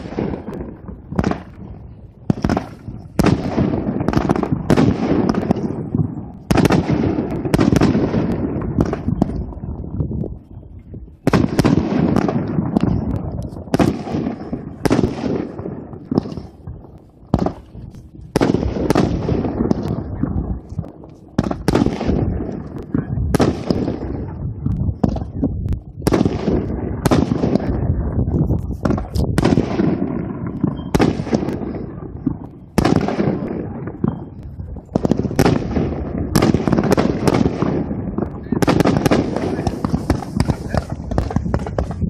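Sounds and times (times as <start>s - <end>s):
fireworks bangs with rumble: 0.0s - 42.0s.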